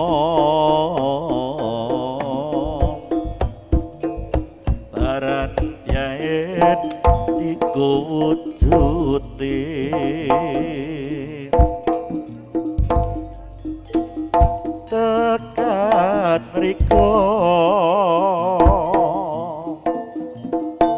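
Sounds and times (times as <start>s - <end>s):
hand drum strokes: 0.0s - 20.9s
vibrato melody: 0.0s - 20.9s.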